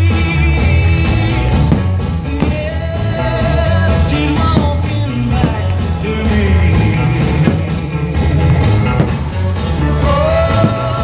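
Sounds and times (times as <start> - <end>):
loud music with singing: 0.0 - 11.0.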